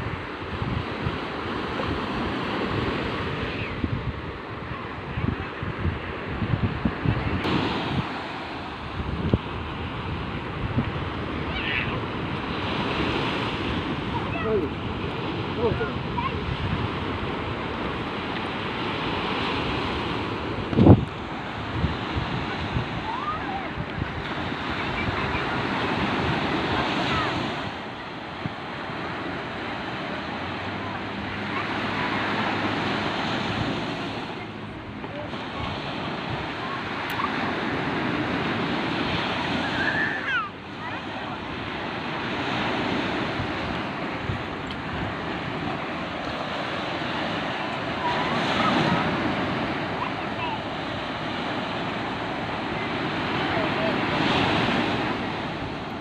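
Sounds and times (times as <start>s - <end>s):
sea waves washing onto beach: 0.0s - 56.0s
wind buffeting microphone: 0.0s - 56.0s.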